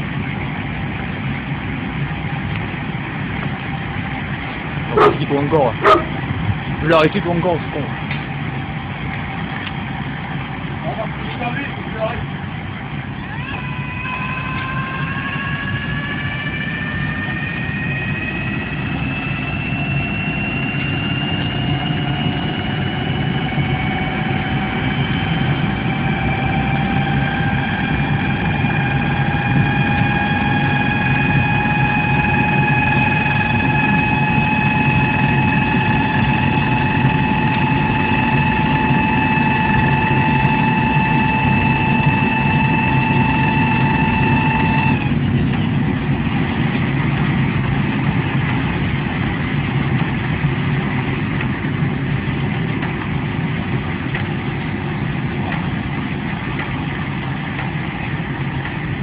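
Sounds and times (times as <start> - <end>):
jet engine rumble: 0.0 - 59.0
jet engine whine climbing in pitch: 0.0 - 59.0.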